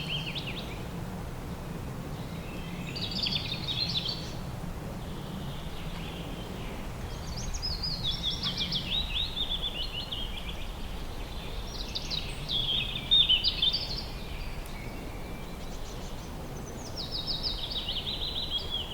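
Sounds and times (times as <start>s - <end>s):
songbird singing: 0.0s - 0.9s, 2.2s - 4.4s, 5.0s - 18.9s.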